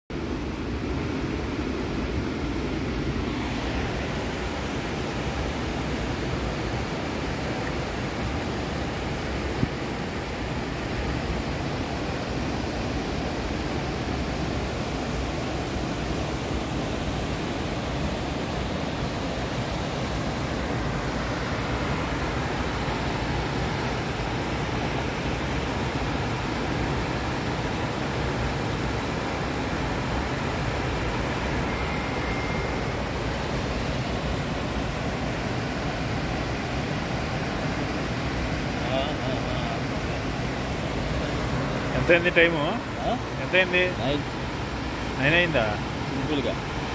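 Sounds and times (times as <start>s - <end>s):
river water rushing over rocks: 0.2s - 46.9s.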